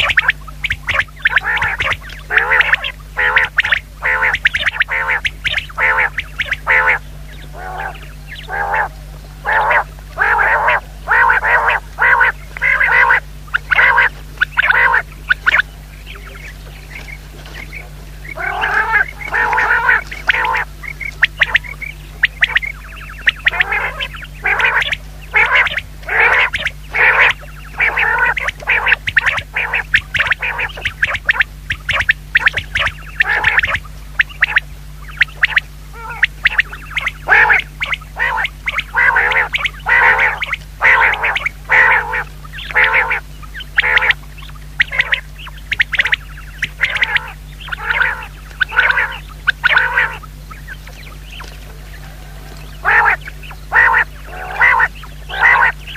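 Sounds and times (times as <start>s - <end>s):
quail calling: 0.0s - 55.9s
steady low hum: 0.0s - 55.9s.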